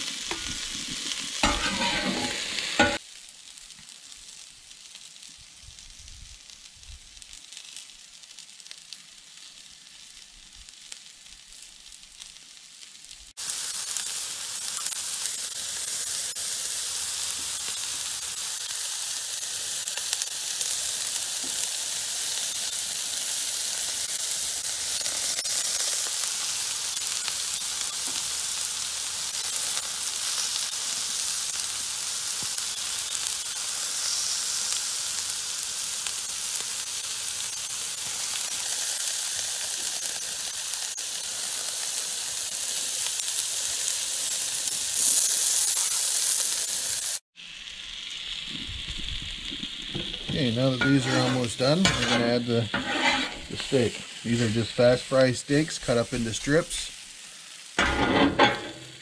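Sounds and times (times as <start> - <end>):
vegetables sizzling on griddle: 0.0 - 59.0.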